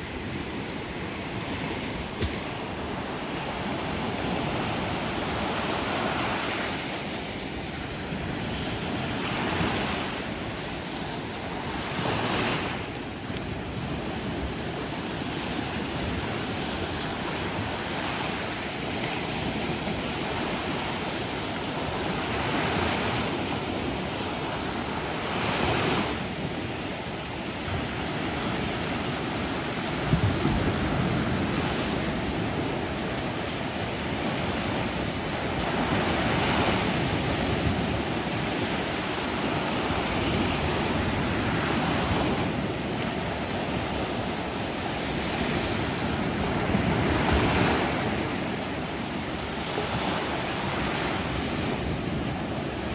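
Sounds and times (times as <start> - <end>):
sea waves washing onto shore: 0.0 - 52.9.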